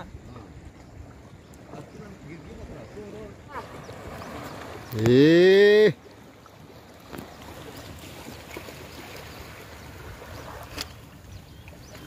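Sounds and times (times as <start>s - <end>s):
faint hiss of wind and water: 0.0s - 12.0s.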